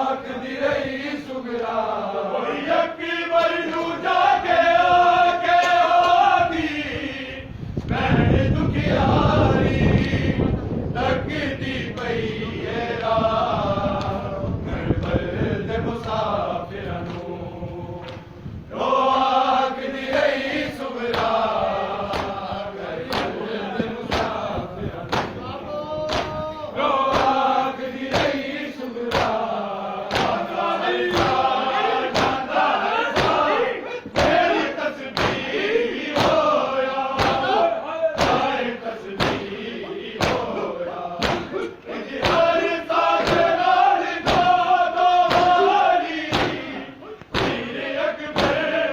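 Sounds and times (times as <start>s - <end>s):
men chanting in unison: 0.0s - 48.9s
rhythmic chest-beating thumps: 7.8s - 48.9s.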